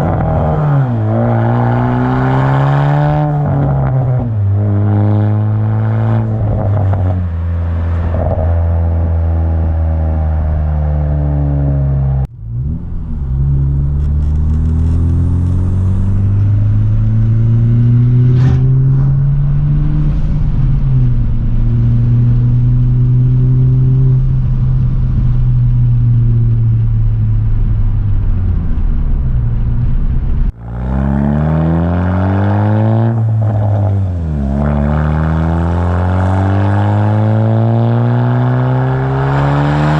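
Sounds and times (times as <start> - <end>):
car engine and exhaust droning: 0.0 - 39.9.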